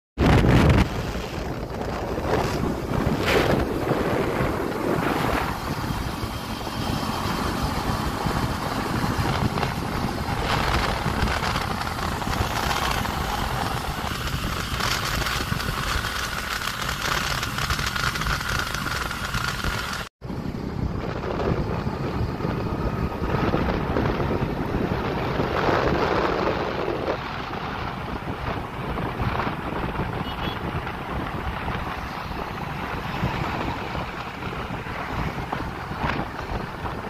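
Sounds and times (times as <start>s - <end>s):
motorcycle engines running: 0.2s - 37.0s
tyre noise on road: 0.2s - 37.0s
wind buffeting microphone: 0.2s - 37.0s.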